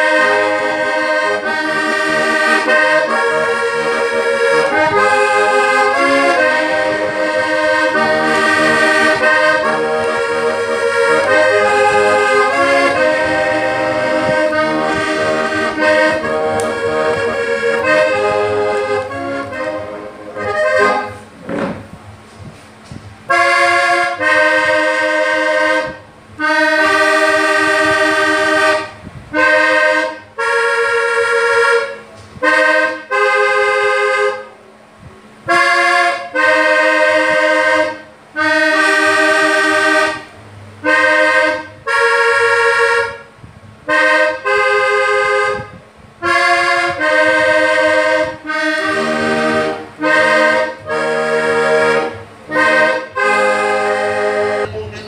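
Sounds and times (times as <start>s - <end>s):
accordion chords: 0.0s - 55.0s.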